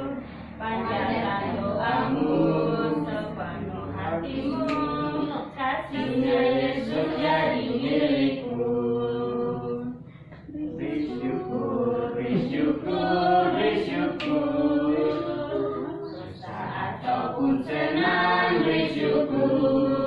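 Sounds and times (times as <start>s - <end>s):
group singing without instruments: 0.0s - 20.0s.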